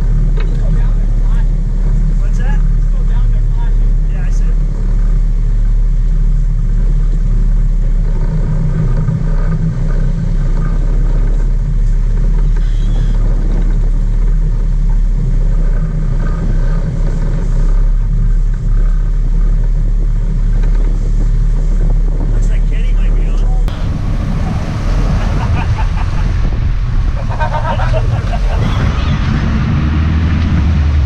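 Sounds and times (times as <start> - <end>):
boat engines droning: 0.0 - 31.0.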